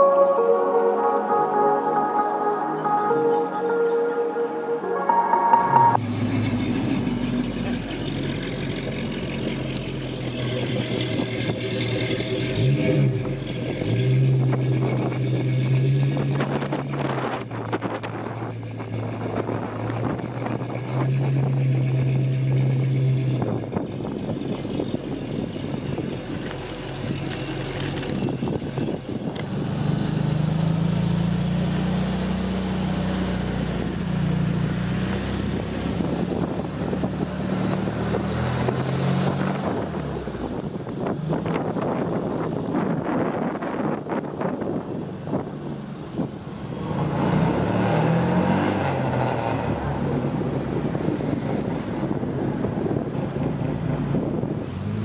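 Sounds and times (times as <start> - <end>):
car engines pulling away: 0.0 - 55.0.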